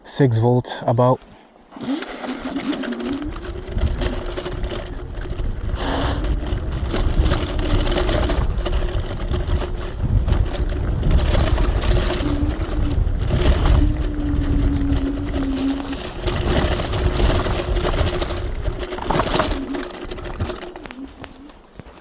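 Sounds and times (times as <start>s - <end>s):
electric scooter motor whining: 1.7s - 22.0s
tyres rumbling on rough ground: 1.7s - 22.0s.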